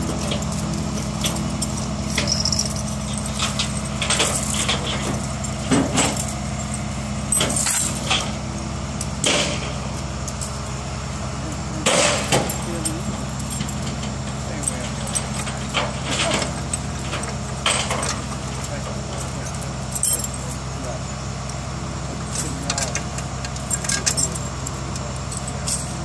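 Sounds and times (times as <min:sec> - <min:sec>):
chains clanking and rattling: 0:00.0 - 0:26.0
truck engine idling: 0:00.0 - 0:26.0.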